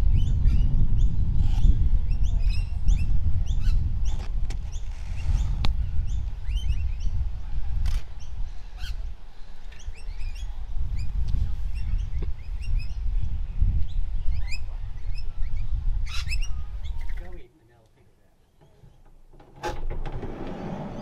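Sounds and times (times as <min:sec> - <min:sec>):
small birds chirping: 0:00.0 - 0:19.3.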